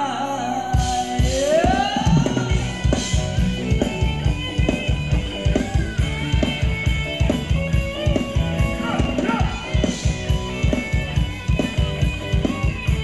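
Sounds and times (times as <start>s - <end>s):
live band playing dance music: 0.0s - 13.0s
steady drum beat: 0.8s - 13.0s.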